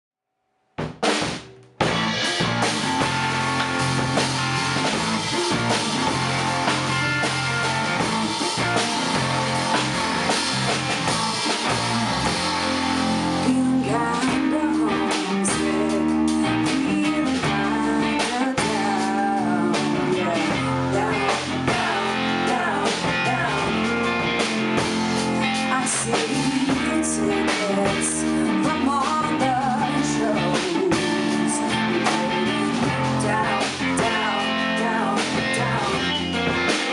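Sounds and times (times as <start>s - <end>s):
band playing guitar and drums: 0.8s - 36.9s.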